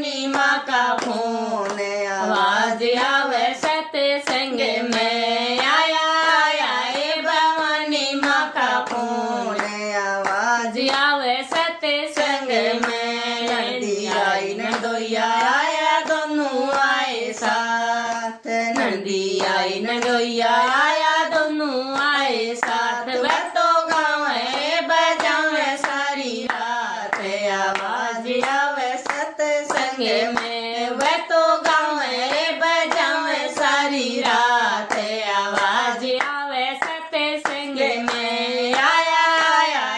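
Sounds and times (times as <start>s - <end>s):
hand clapping: 0.0s - 39.9s
person singing devotional song: 0.0s - 39.9s.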